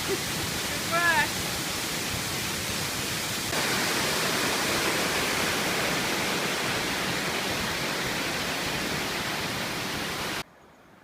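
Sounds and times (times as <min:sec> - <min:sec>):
waterfall pouring: 0:00.0 - 0:10.4.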